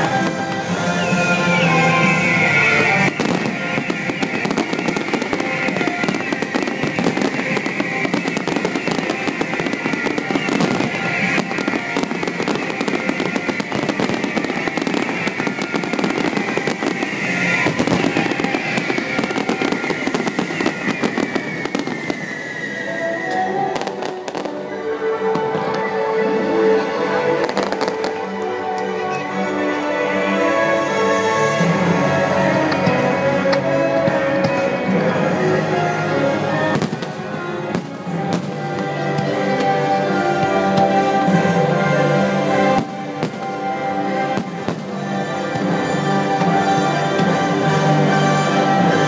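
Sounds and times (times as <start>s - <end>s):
fireworks bursting and crackling: 0.0s - 26.0s, 26.6s - 29.9s, 31.7s - 49.0s
music: 0.0s - 49.0s.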